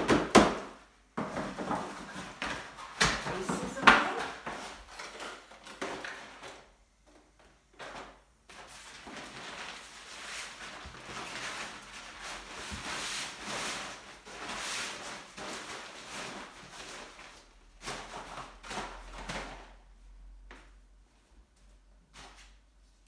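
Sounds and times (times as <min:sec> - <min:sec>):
rustling and clattering of cases: 0:00.0 - 0:19.8.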